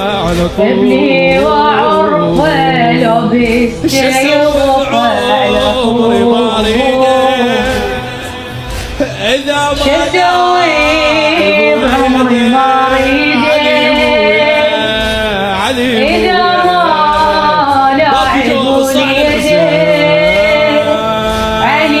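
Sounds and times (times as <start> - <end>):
person singing lament: 0.0 - 22.0.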